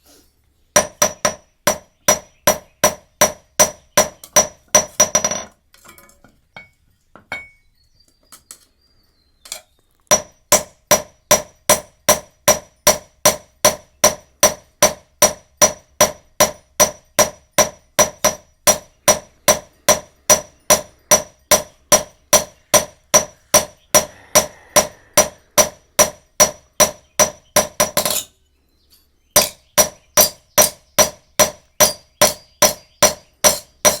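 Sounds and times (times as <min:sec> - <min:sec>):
hammer striking iron on anvil: 0:00.8 - 0:05.5, 0:10.1 - 0:28.3, 0:29.4 - 0:34.0.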